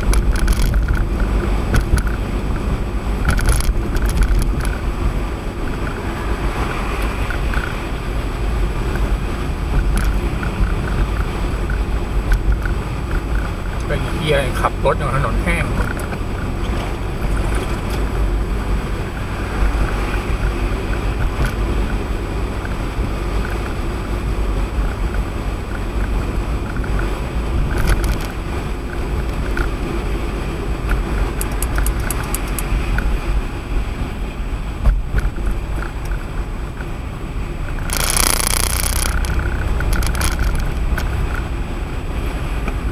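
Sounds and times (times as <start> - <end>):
tyre and road noise: 0.0 - 42.9.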